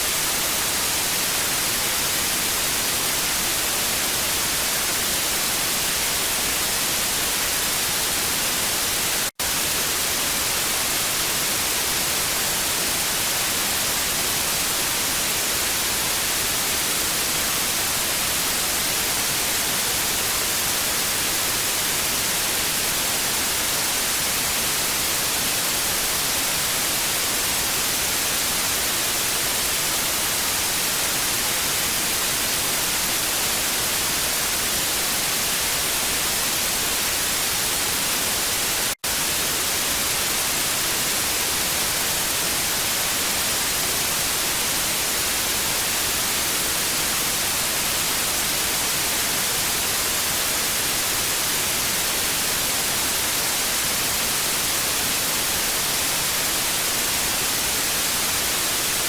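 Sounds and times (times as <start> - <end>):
television static hiss: 0.0 - 59.0.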